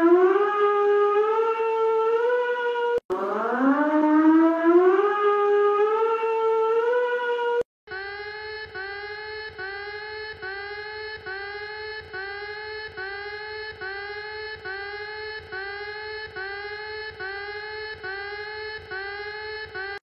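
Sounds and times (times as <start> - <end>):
buzzy electronic alarm tone: 0.0 - 20.0.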